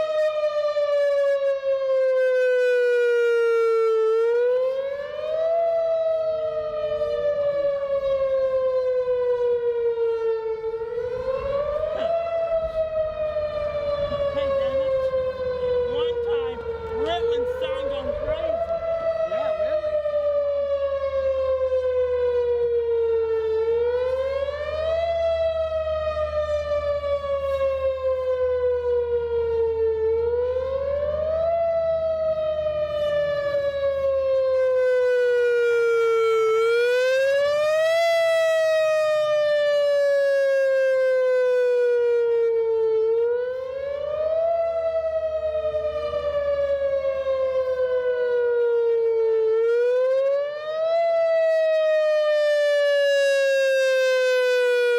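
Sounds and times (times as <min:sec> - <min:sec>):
warning siren rising and falling: 0:00.0 - 0:54.9.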